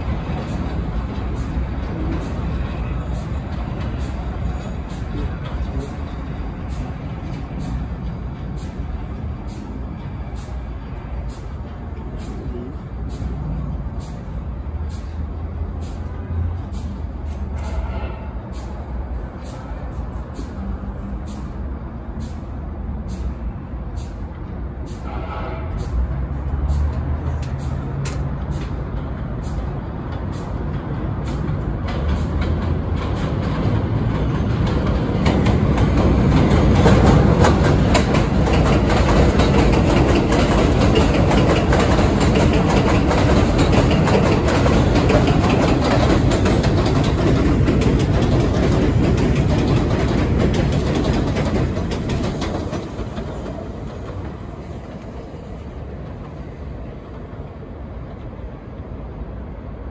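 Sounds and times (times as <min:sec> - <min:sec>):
train wheels clattering on rails: 0:00.0 - 0:58.5.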